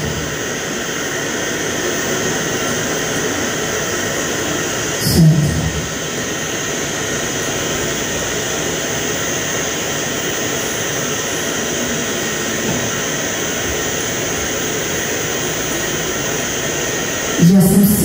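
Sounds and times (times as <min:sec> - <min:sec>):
loud rushing noise drone: 0:00.0 - 0:18.0.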